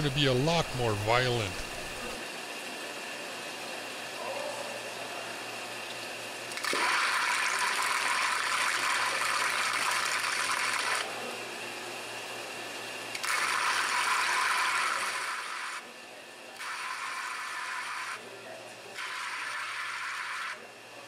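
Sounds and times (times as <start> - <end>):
faint steady machine hum: 0.0 - 21.0.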